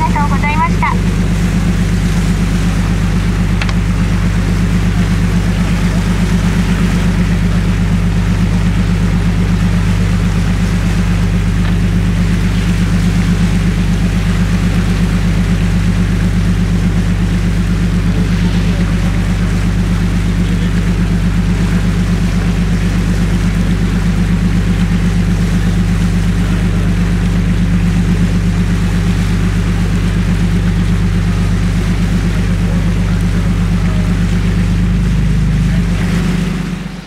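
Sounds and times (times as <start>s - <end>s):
boat engine droning: 0.0s - 37.0s
water rushing past hull: 0.0s - 37.0s.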